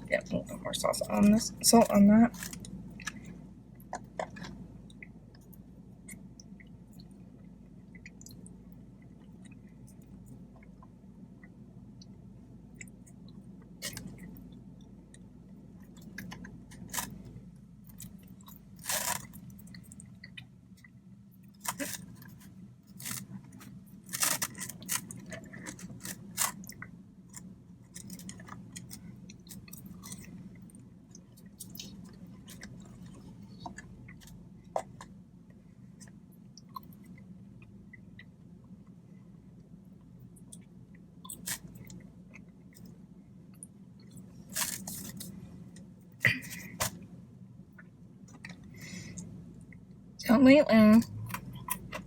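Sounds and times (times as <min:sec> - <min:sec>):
steady low hum: 0:00.0 - 0:52.0
person chewing crunchy food: 0:01.0 - 0:35.2, 0:40.0 - 0:47.0, 0:47.7 - 0:49.9, 0:51.1 - 0:52.0.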